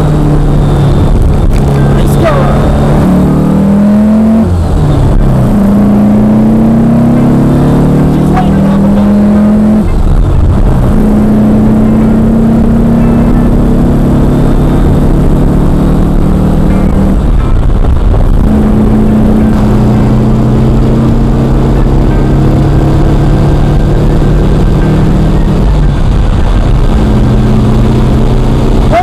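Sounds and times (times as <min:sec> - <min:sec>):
car engine under load: 0:00.0 - 0:29.0.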